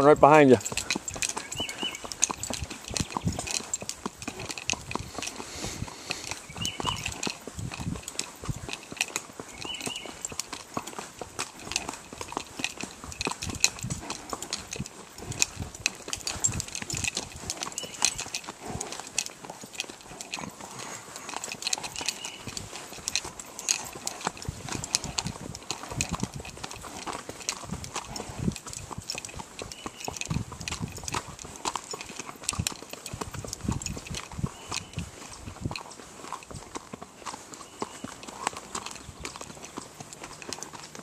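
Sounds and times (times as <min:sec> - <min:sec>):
gravel crunching: 0:00.0 - 0:41.0
horse hoofbeats on gravel: 0:00.0 - 0:41.0.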